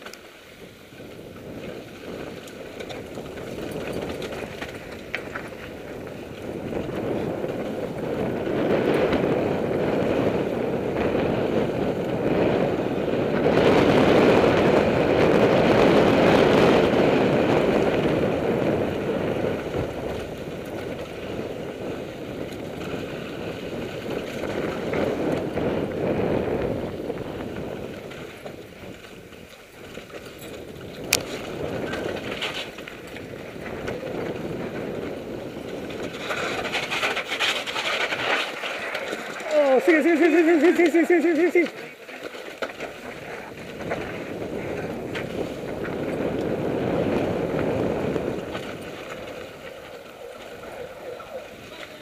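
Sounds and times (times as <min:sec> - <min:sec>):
tyres rolling over gravel: 0:00.0 - 0:52.0
wind on microphone: 0:00.0 - 0:52.0.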